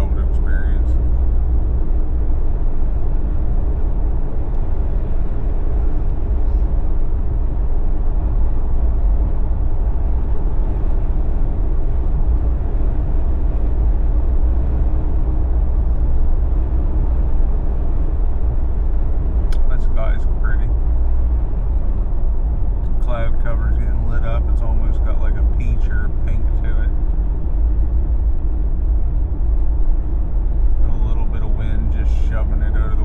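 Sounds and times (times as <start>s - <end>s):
vehicle road rumble: 0.0s - 33.0s.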